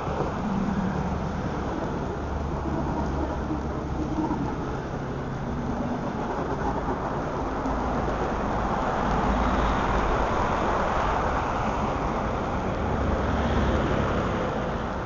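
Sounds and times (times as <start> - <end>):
low train hum: 0.0 - 15.0
train wheels rumbling on rails: 0.0 - 15.0.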